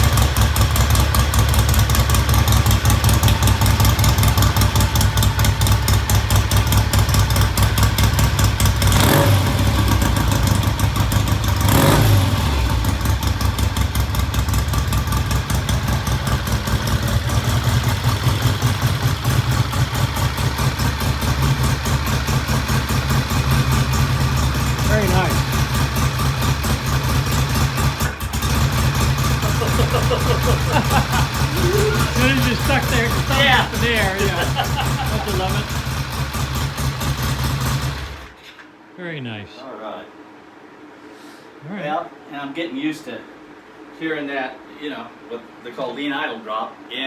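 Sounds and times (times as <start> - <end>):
motorcycle throttle blips: 0.0 - 38.2
motorcycle engine running: 0.0 - 38.4.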